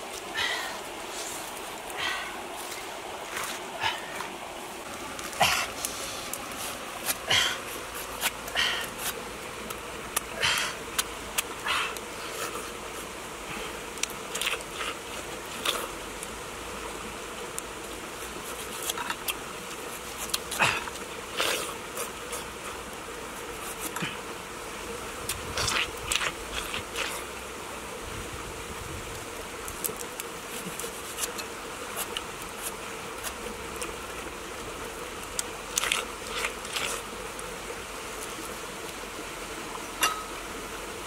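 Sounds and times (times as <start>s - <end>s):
background hum: 0.0s - 41.0s.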